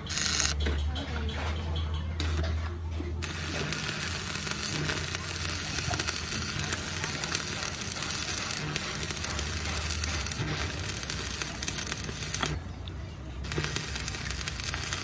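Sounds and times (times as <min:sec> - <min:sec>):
welding arc crackling: 0:00.0 - 0:00.7, 0:02.2 - 0:02.5, 0:03.2 - 0:12.6, 0:13.4 - 0:15.0.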